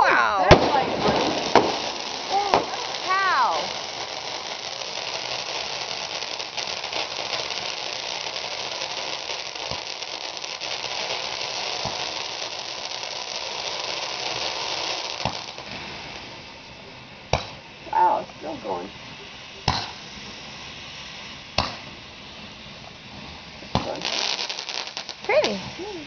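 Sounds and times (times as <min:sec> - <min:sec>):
sharp firework pops: 0:00.0 - 0:18.0, 0:18.7 - 0:26.0
fireworks crackling: 0:00.0 - 0:26.0.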